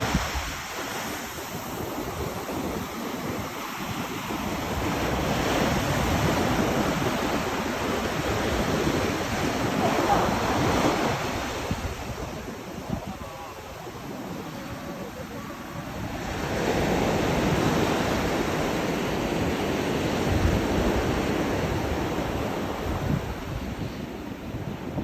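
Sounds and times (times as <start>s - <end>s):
sea waves washing ashore: 0.0s - 25.0s.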